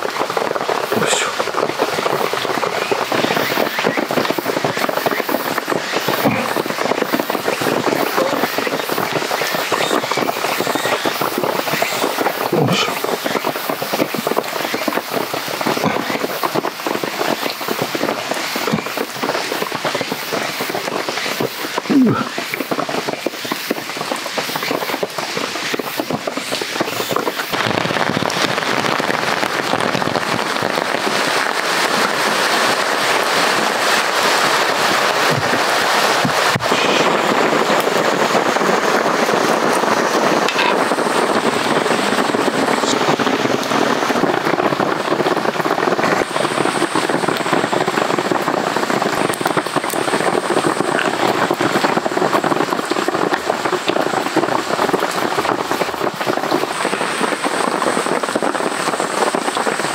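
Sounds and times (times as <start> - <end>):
heavy rain on a tarp: 0.0 - 59.9.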